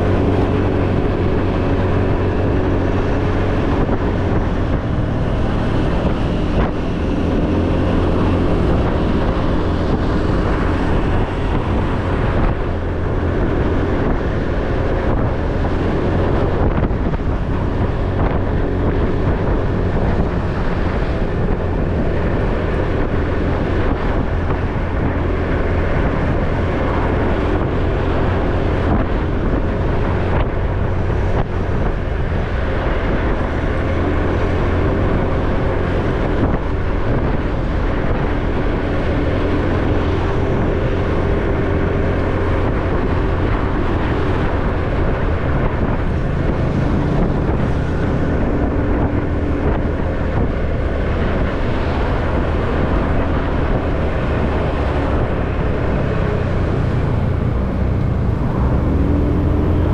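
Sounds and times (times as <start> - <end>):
motorcycle engine running: 0.0 - 59.9
road noise: 0.0 - 59.9
wind noise on microphone: 0.0 - 59.9.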